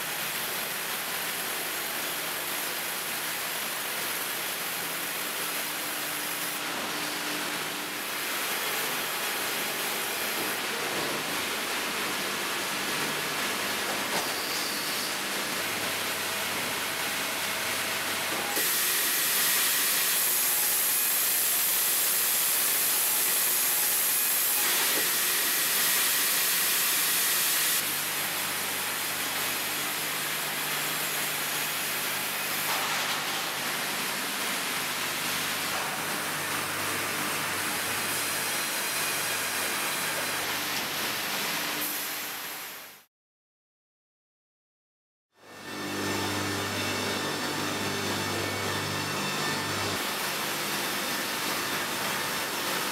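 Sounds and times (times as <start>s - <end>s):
sawmill machinery running: 0.7s - 42.6s, 45.5s - 52.9s.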